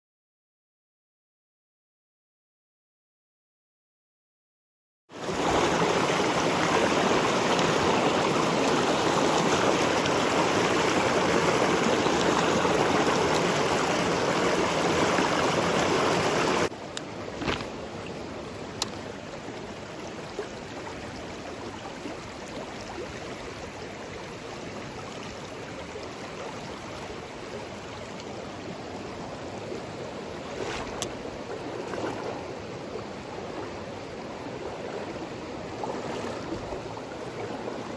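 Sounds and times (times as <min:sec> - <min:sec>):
stream water rushing: 0:05.1 - 0:37.9.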